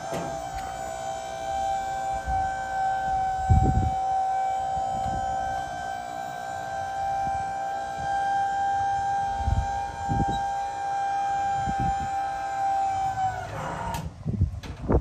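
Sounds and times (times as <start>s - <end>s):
hydraulic pump motor whining: 0.0s - 15.0s.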